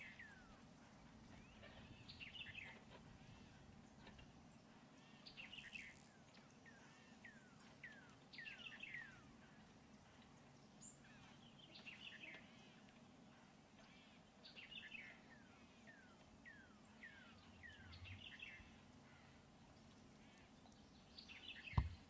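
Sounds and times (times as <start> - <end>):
faint songbird calls: 0.0 - 22.0
low outdoor hum: 0.0 - 22.0.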